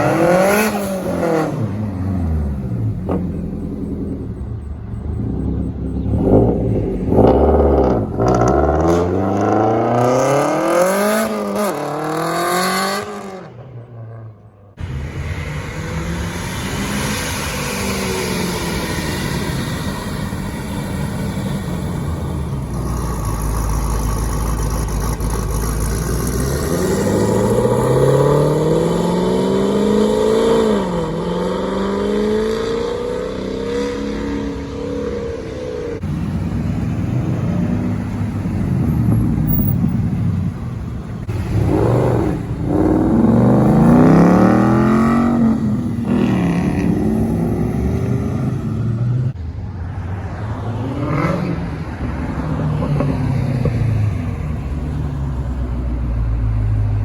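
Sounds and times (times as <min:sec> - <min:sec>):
car engines accelerating hard: 0:00.0 - 0:13.6, 0:14.7 - 0:57.0.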